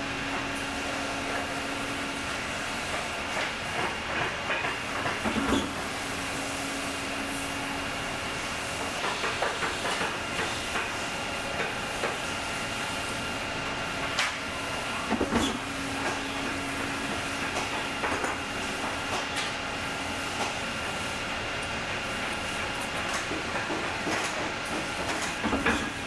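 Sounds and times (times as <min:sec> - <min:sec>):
cutting press humming and hissing: 0:00.0 - 0:26.0.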